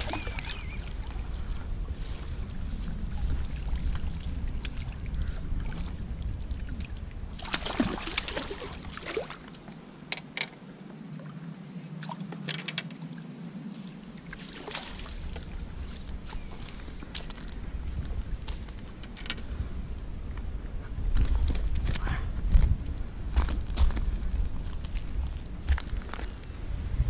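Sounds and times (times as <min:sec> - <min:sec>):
wind buffeting microphone: 0:00.0 - 0:10.1, 0:13.3 - 0:27.0.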